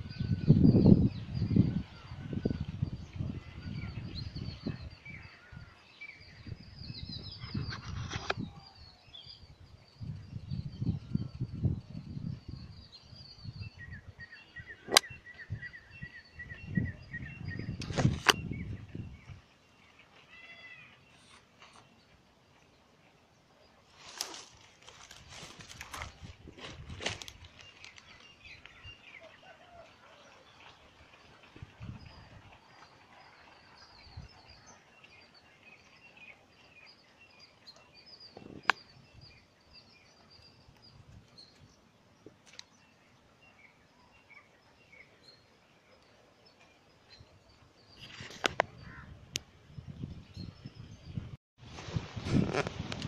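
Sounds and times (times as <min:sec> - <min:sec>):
small birds chirping: 0:00.0 - 0:29.8, 0:31.8 - 0:51.4.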